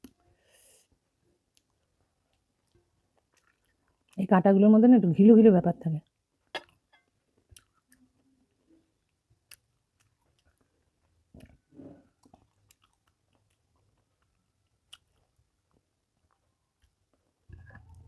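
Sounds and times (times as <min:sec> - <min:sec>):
soft chewing: 0:00.0 - 0:04.2, 0:06.0 - 0:18.0.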